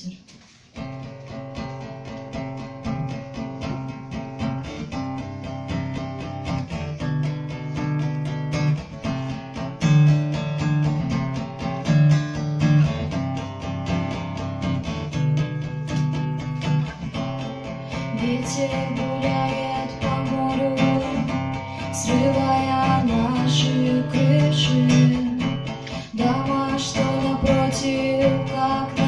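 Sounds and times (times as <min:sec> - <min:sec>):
acoustic guitar plucking: 0:00.5 - 0:29.0.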